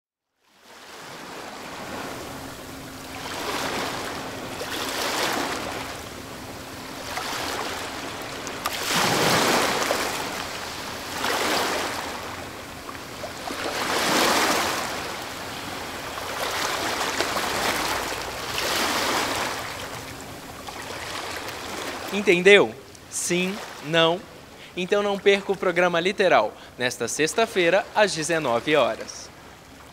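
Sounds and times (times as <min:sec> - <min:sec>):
ocean waves washing in: 0:00.4 - 0:29.9.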